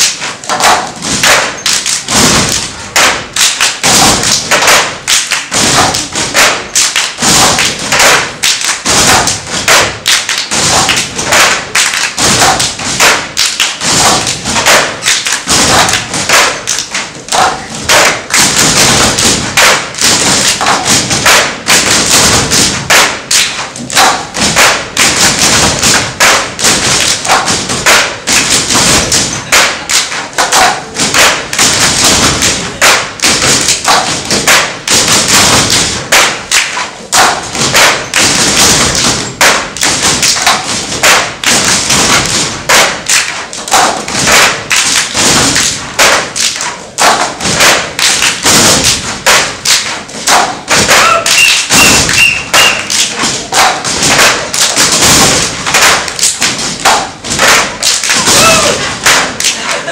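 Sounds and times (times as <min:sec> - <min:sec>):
djembes and bass drums playing: 0:02.0 - 0:59.9.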